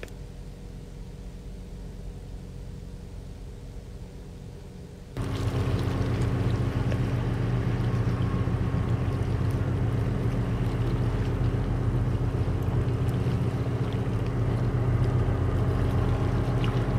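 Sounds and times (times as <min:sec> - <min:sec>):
ship diesel engine droning: 0:00.6 - 0:16.9.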